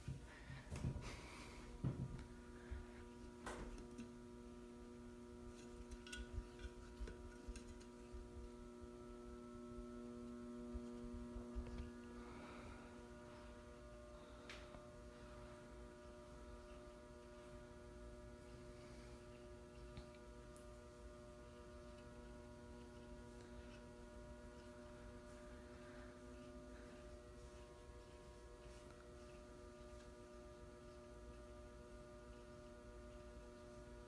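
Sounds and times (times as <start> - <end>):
ceiling fan motor hum: 0.0 - 34.0.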